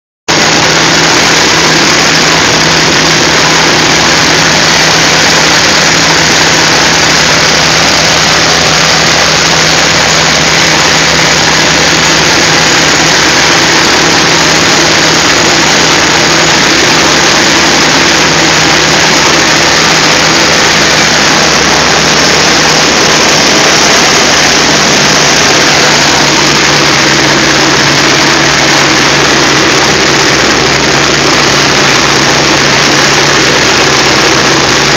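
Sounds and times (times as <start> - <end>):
propeller plane engine droning: 0.3 - 34.9.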